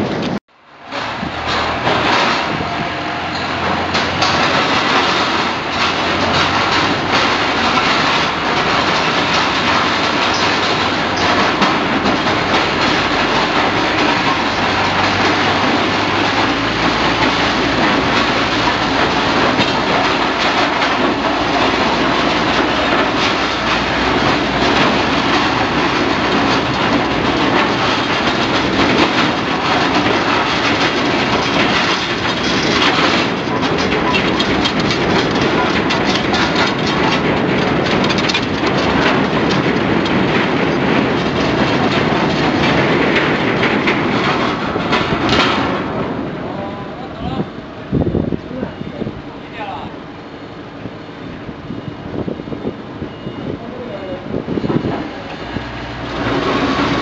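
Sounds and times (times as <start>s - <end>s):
cart wheels rattling on ramp: 0.0s - 57.0s
low engine rumble: 0.0s - 57.0s.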